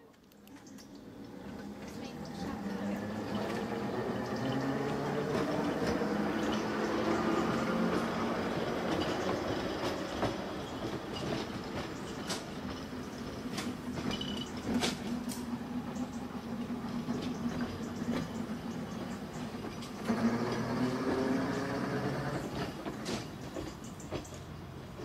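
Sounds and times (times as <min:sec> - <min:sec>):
tram motor hum and rumble: 0:00.0 - 0:25.0
tram wheels clicking on rails: 0:00.2 - 0:25.0.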